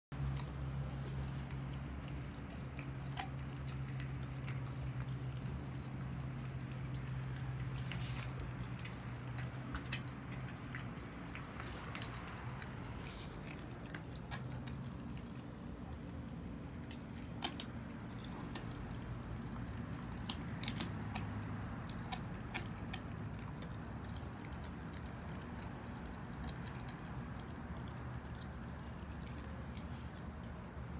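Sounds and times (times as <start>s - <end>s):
puppy chewing meat and bone: 0.1s - 30.9s
steady low hum: 0.1s - 30.9s.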